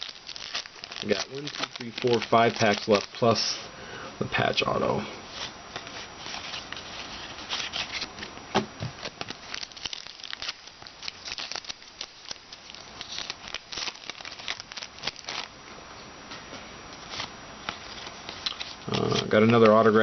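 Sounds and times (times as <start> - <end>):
trading cards flicking and rustling: 0.0 - 3.6, 5.3 - 15.5, 17.0 - 20.0.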